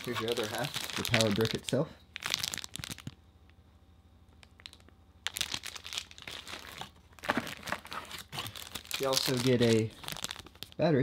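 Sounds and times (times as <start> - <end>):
plastic packaging crinkling: 0.0 - 3.2, 4.4 - 11.0.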